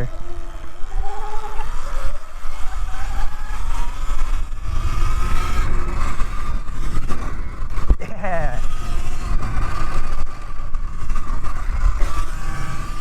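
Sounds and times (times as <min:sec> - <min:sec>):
electric motor whining: 0:00.0 - 0:13.0
wind buffeting on microphone: 0:01.4 - 0:13.0.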